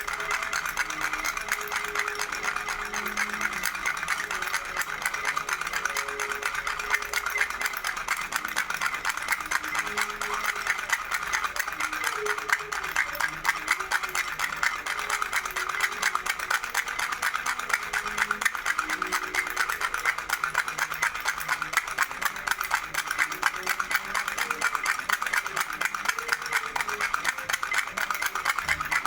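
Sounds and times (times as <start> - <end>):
baby rattle shaken: 0.0 - 29.0.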